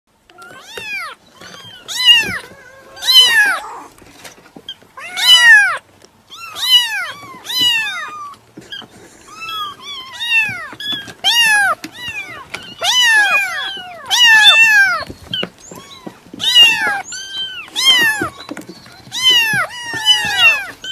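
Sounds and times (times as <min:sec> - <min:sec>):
cat meowing: 0:00.3 - 0:03.9, 0:05.0 - 0:20.9.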